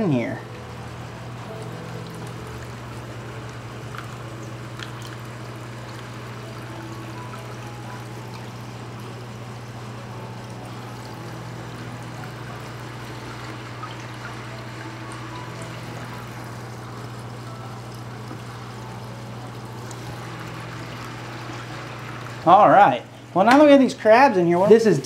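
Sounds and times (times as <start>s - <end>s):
aquarium filter water trickling: 0.0s - 25.0s
steady low hum: 0.0s - 25.0s.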